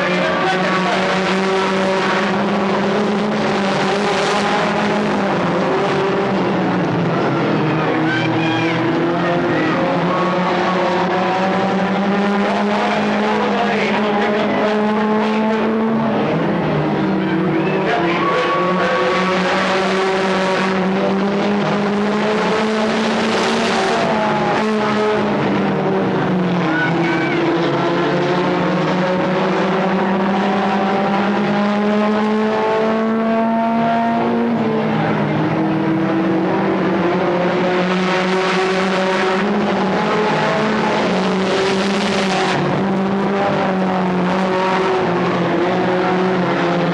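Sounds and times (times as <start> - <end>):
racing car engines droning: 0.0 - 46.9.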